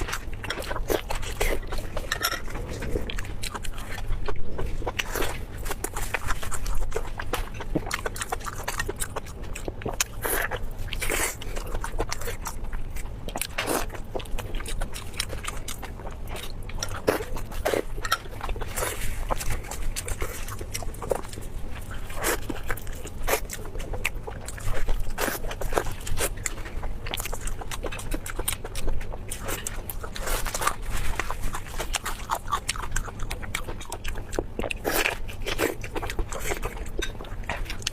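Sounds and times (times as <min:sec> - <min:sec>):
person chewing food: 0:00.0 - 0:37.9
steady low hum: 0:00.0 - 0:37.9.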